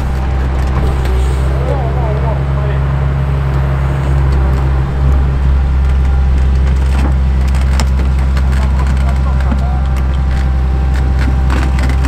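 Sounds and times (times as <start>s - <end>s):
diesel engine running: 0.0s - 12.0s
sharp engine knocks: 0.0s - 12.0s.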